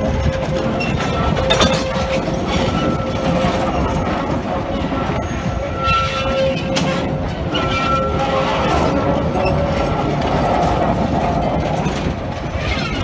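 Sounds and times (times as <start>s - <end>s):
railcars rumbling on rails: 0.0s - 13.0s.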